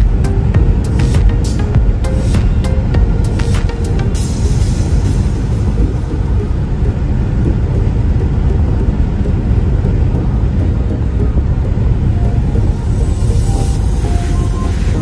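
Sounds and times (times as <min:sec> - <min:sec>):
road and wind noise: 0:00.0 - 0:15.0
vehicle rumble: 0:00.0 - 0:15.0.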